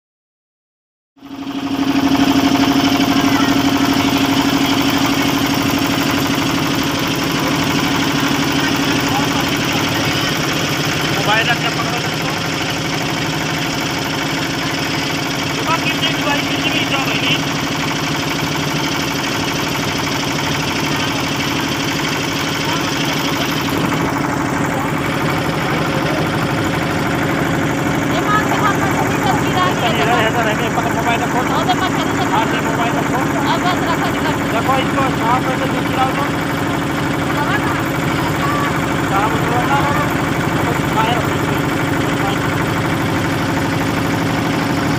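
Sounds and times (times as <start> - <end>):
motorboat engine chugging: 1.2 - 44.9.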